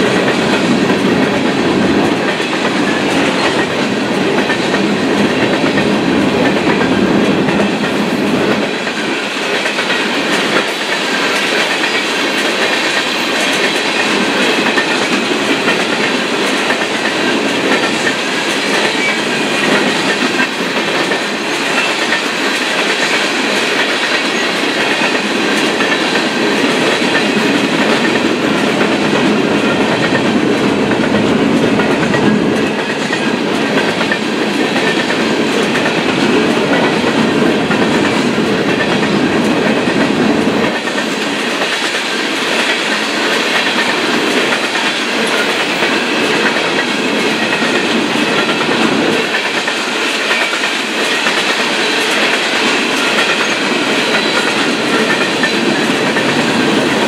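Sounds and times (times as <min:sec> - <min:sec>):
freight train wheels rolling: 0:00.0 - 0:57.0.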